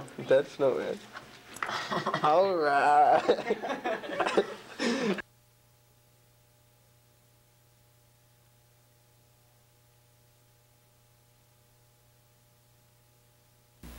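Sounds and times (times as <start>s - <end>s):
faint hum with hiss: 0.0s - 13.9s.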